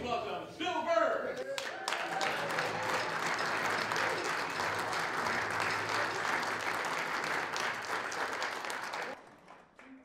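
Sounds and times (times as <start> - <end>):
audience applause: 1.4 - 10.0.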